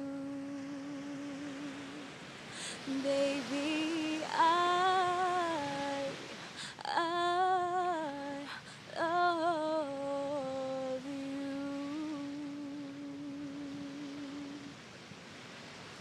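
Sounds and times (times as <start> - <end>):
woman humming a melody: 0.0 - 2.1, 2.8 - 6.2, 6.8 - 14.7.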